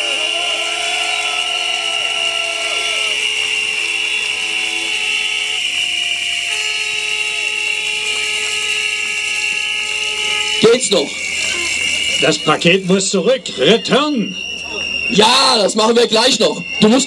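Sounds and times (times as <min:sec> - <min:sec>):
crowd blowing whistles: 0:00.0 - 0:17.0
horns holding low notes: 0:00.0 - 0:17.0.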